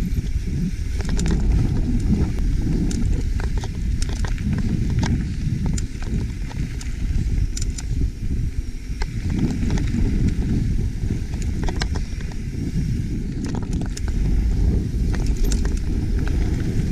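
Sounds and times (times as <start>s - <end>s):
bike clicks and rattles: 0.0s - 16.9s
wind and tyres rumbling: 0.0s - 16.9s.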